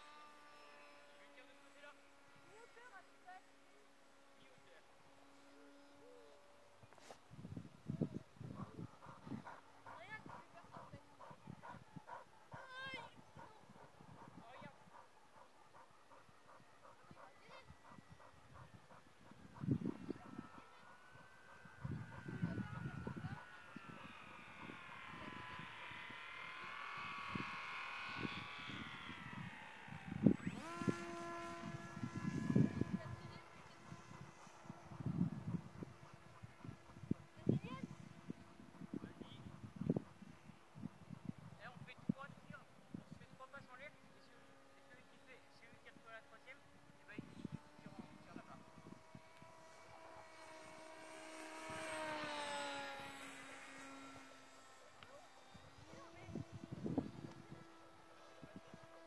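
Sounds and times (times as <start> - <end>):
model plane motor whining: 0.0 - 59.0.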